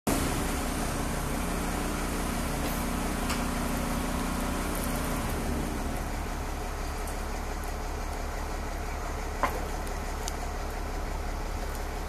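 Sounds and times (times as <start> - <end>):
bus engine idling: 0.1 - 12.0.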